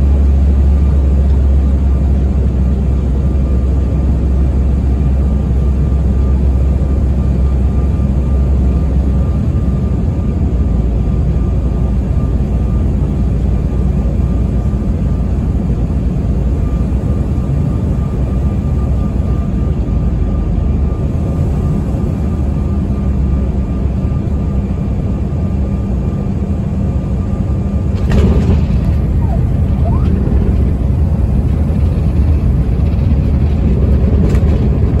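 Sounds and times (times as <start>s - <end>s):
airliner cabin rumble: 0.0s - 35.0s
faint engine whine: 0.0s - 35.0s.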